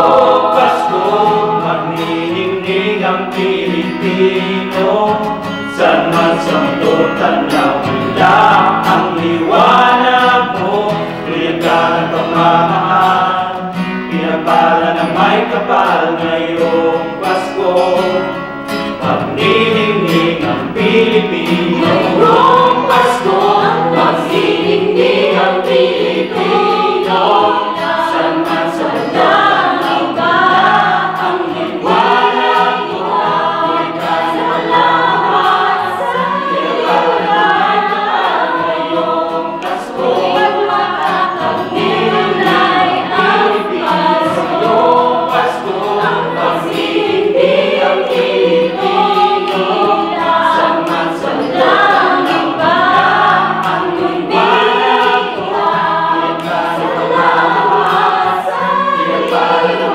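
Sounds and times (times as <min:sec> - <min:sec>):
acoustic guitar: 0:00.0 - 0:59.9
mixed choir singing: 0:00.0 - 0:59.9.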